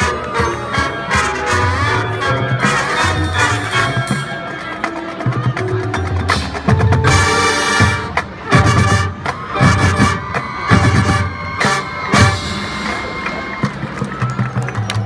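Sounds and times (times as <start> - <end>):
wind and brass chords: 0.0 - 5.7, 6.8 - 14.0.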